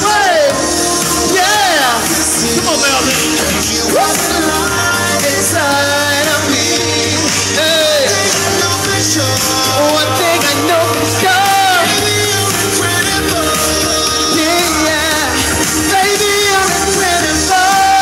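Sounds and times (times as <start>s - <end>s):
man singing: 0.0s - 18.0s
pop backing track with bass: 0.0s - 18.0s.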